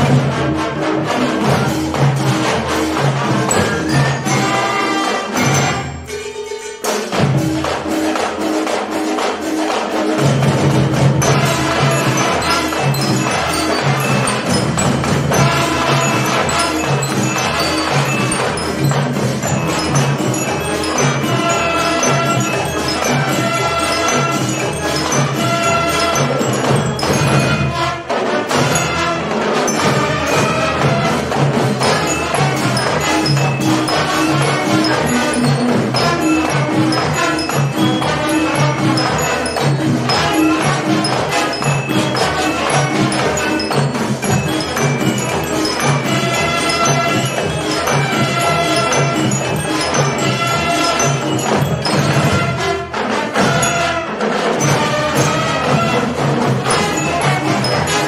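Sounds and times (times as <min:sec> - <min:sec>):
marching drums beat: 0:00.0 - 0:06.1, 0:06.9 - 0:58.0
brass horns playing tune: 0:02.7 - 0:06.4, 0:11.2 - 0:58.0.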